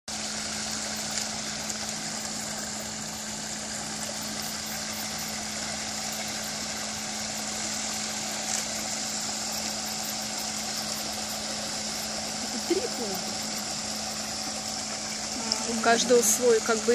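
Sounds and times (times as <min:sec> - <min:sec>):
low electric hum: 0:00.1 - 0:16.9
waterfall splashing into pond: 0:00.1 - 0:16.9.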